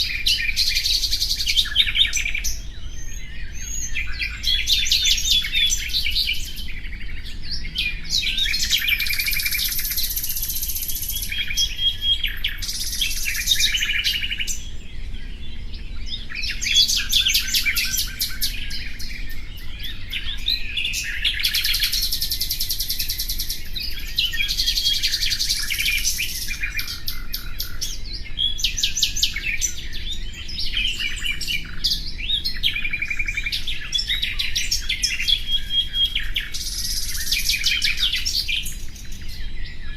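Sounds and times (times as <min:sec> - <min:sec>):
nightingale singing trills: 0:00.0 - 0:39.9.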